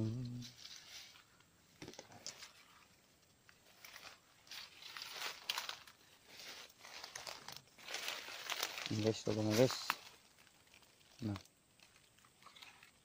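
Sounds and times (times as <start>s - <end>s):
faint rustling and crackling: 0.4s - 13.0s.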